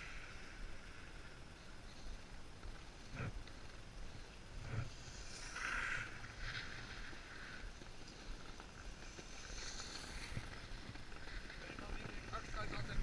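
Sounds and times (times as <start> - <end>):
skis scraping over snow: 0.0 - 13.0.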